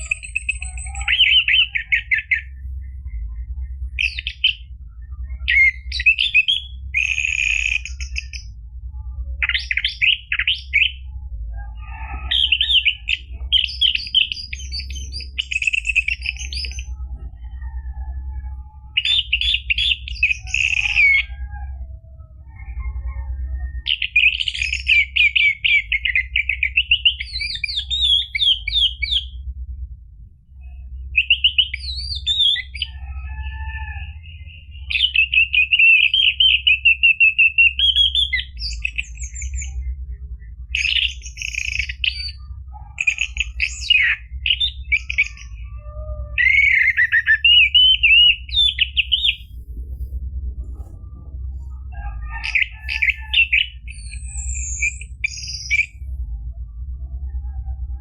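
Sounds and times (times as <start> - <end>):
thrush singing trills and whistles: 0.0 - 29.4, 30.6 - 56.4
steady low hum: 0.0 - 58.0.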